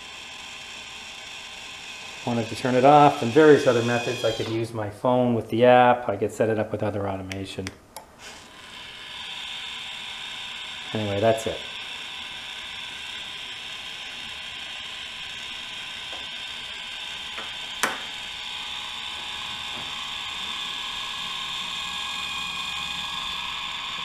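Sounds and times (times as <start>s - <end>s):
electric motor whine: 0.0s - 4.7s, 8.2s - 24.0s.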